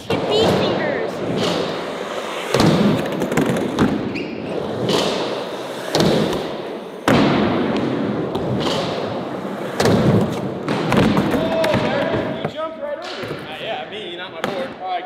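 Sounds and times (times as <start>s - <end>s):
skateboard wheels rolling: 0.0s - 12.5s
skateboard striking the ground: 0.2s - 12.4s.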